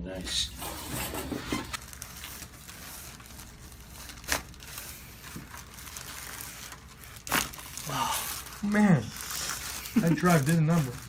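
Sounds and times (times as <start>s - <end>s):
crinkling rustling handling noise: 0.1s - 11.0s.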